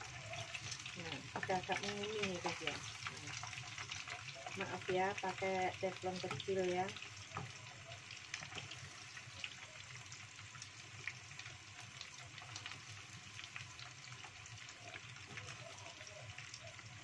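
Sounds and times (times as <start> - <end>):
oil sizzling with pops: 0.0 - 17.0.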